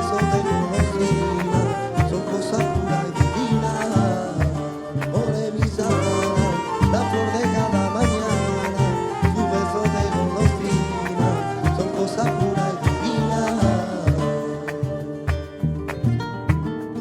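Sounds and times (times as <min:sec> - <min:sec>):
latin band music with brass: 0:00.0 - 0:17.0.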